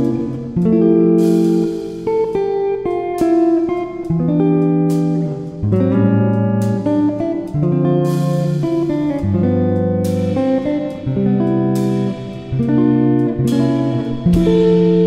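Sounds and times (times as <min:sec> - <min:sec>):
strummed guitar music: 0:00.0 - 0:15.0.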